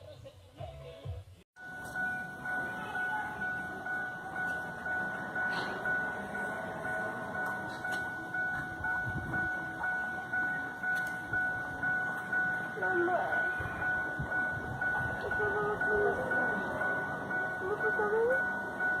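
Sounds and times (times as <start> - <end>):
pulsing high beep: 1.6 - 19.0.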